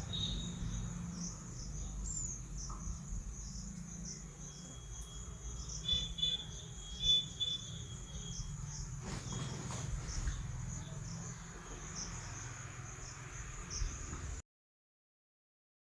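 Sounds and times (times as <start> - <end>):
insects chirping: 0.0 - 14.4.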